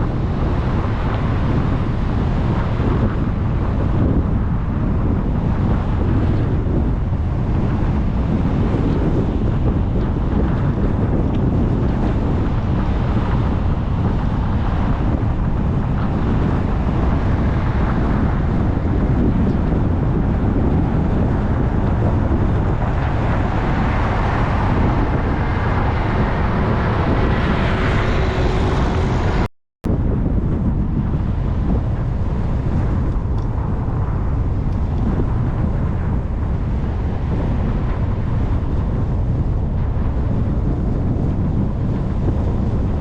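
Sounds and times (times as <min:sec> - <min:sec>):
car road noise: 0:00.0 - 0:40.7
wind noise: 0:00.0 - 0:43.0.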